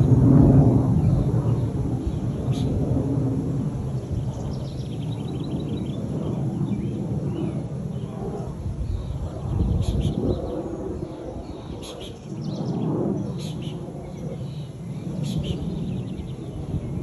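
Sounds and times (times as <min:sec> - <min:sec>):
low continuous rumbling: 0:00.0 - 0:17.0
small birds chirping: 0:01.0 - 0:02.8, 0:03.9 - 0:17.0.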